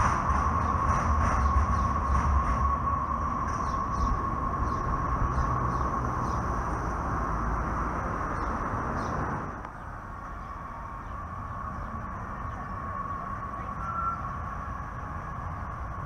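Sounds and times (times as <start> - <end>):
light rail train high whine: 0.0 - 16.0
train rumbling on track: 0.0 - 16.0.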